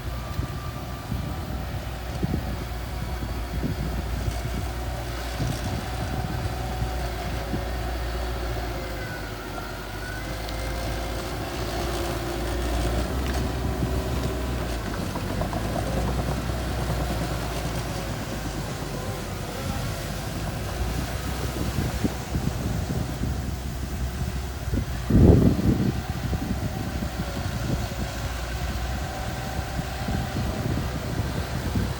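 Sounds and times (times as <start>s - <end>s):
bulldozer engine running: 0.0s - 31.9s
faint mechanical whine: 0.0s - 31.9s.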